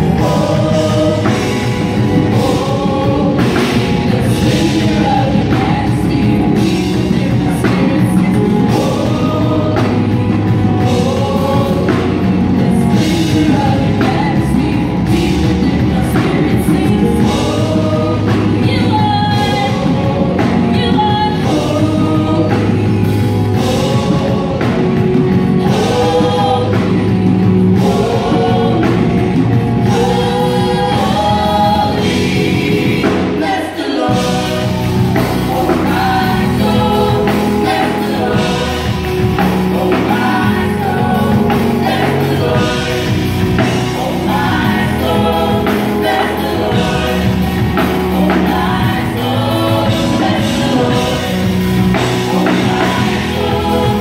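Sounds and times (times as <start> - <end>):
low bass line: 0.0 - 33.4, 34.1 - 54.0
gospel choir singing: 0.0 - 54.0
instrumental accompaniment: 0.0 - 54.0.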